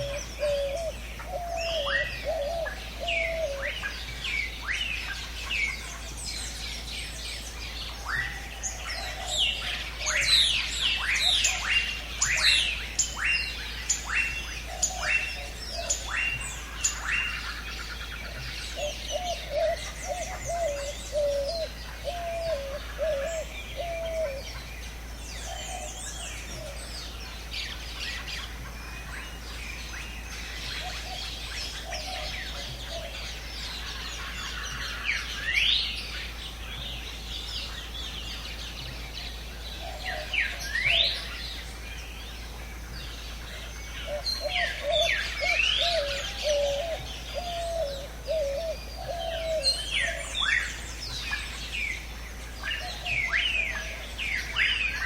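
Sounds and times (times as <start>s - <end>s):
birds whistling descending notes: 0.0s - 55.0s
lower bird warbling: 0.0s - 55.0s.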